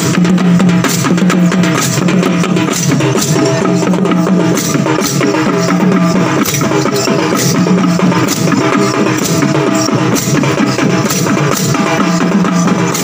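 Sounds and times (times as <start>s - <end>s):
barrel drums beaten by hand: 0.0s - 13.0s.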